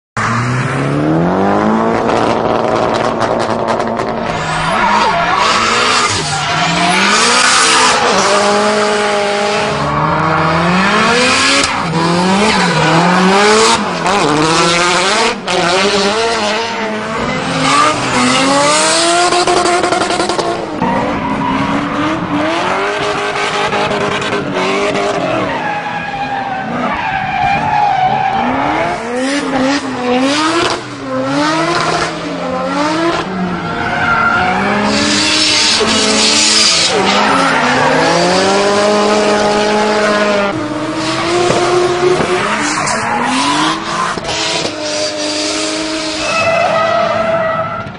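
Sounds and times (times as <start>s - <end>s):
racing car engine revving: 0.2s - 25.6s, 26.6s - 47.9s.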